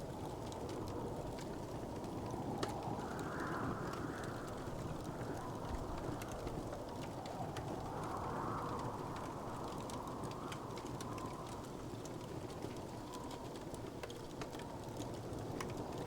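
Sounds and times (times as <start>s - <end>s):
low rushing of fire: 0.0s - 16.0s
wood fire crackling: 0.0s - 16.0s.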